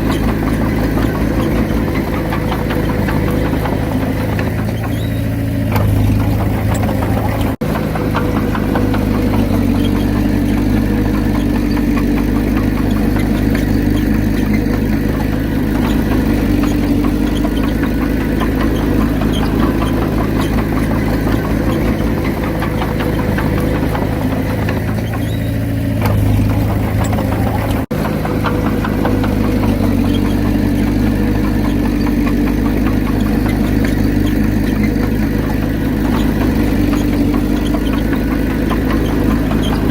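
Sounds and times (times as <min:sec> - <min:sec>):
bulldozer diesel engine knocking: 0:00.0 - 0:39.9.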